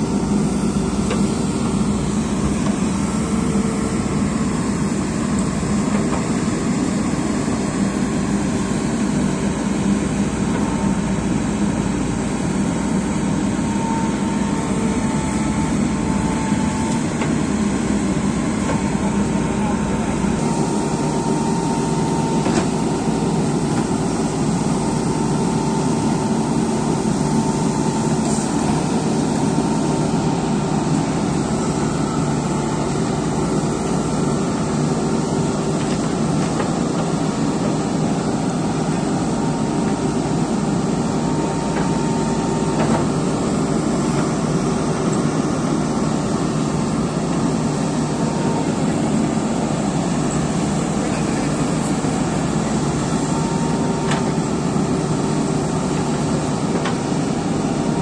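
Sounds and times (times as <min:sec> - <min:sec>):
diesel engines under load: 0:00.0 - 0:58.0.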